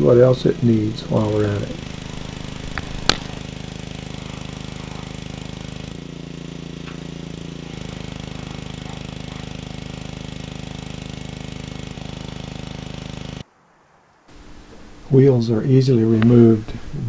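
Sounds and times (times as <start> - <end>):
pressure washer engine droning: 0.0 - 13.4, 14.3 - 17.0.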